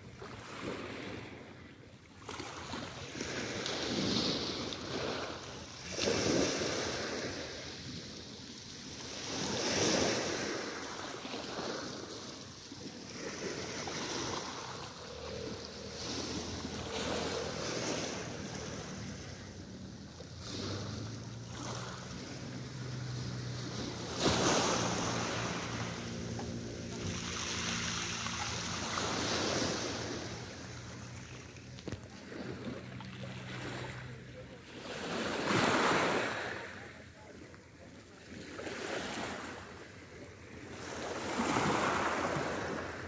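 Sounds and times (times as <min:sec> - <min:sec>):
sea waves washing onto beach: 0:00.0 - 0:43.0.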